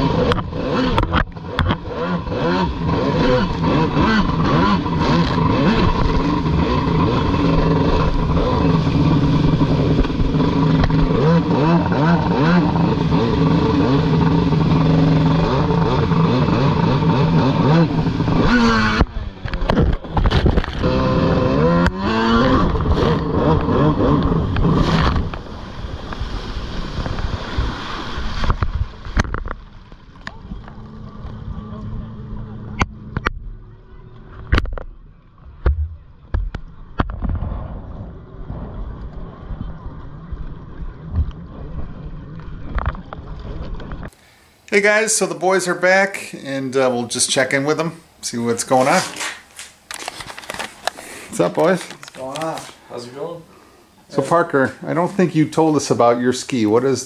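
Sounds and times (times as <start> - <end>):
jet ski engines revving: 0.0 - 37.2, 38.1 - 57.0.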